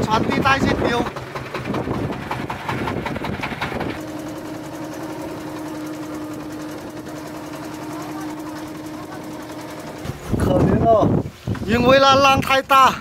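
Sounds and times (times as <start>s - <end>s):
boat engine droning: 0.0s - 11.1s
wind and water rush: 0.0s - 13.0s.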